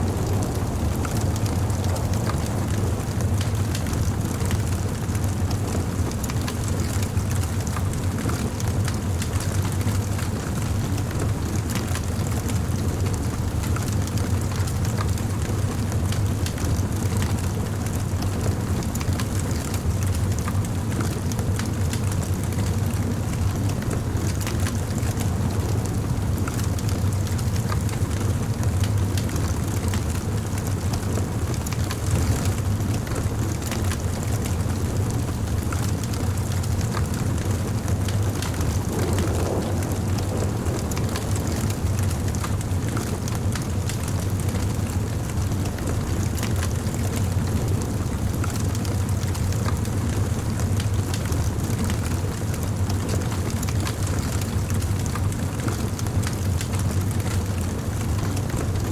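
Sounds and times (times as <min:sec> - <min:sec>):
bonfire flames rumbling: 0:00.0 - 0:58.9
fire crackles and pops: 0:00.0 - 0:58.9.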